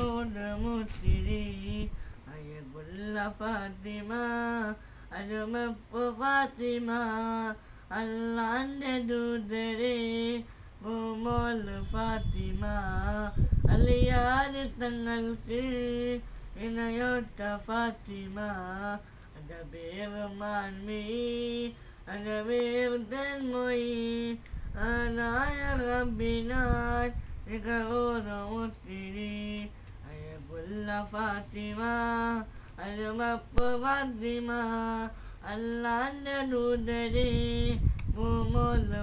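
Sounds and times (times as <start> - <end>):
boy singing unaccompanied: 0.0 - 39.0.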